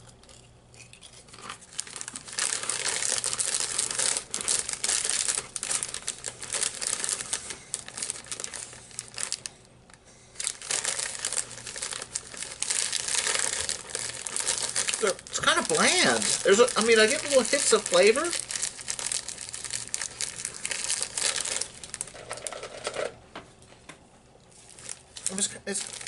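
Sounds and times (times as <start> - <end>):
crisp packet crinkling: 0.3 - 9.5, 10.4 - 23.0, 24.5 - 26.0.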